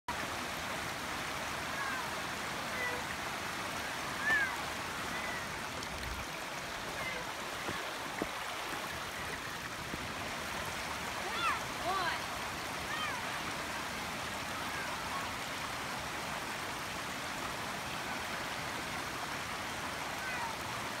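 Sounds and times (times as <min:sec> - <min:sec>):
creek running over rocks: 0:00.1 - 0:21.0.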